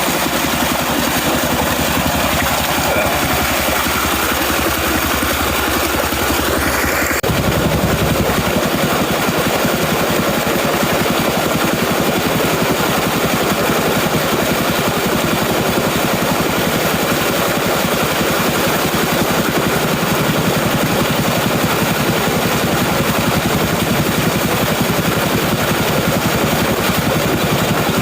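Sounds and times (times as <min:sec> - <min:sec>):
diesel engine knocking: 0:00.1 - 0:28.0.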